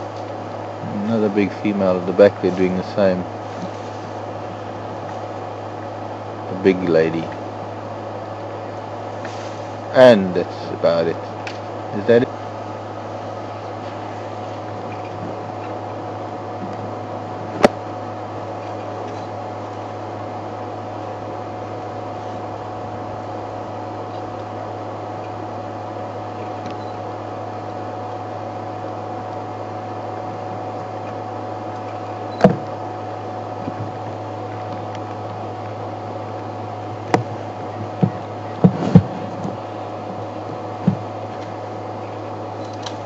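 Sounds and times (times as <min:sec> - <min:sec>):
steady mechanical hum: 0:00.0 - 0:43.0.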